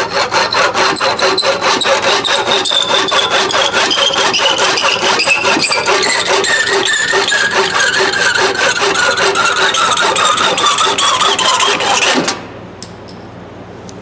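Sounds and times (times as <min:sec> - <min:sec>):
handsaw cutting wood: 0:00.0 - 0:12.3.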